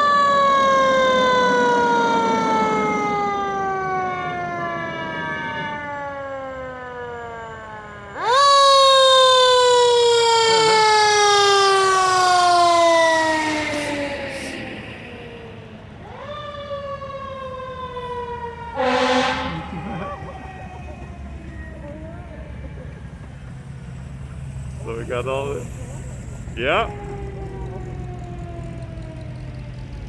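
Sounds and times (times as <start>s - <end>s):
mechanical siren wailing: 0.0s - 30.0s.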